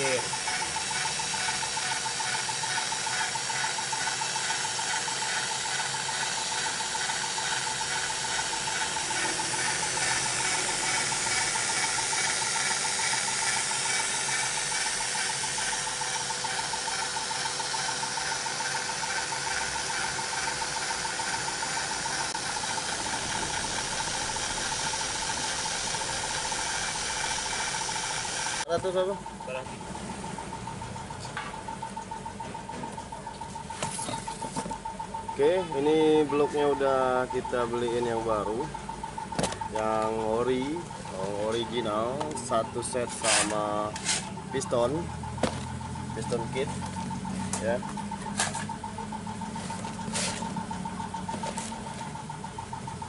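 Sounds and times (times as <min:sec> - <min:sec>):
valve-lapping tool ratcheting chatter: 0:00.0 - 0:29.7, 0:35.1 - 0:52.3.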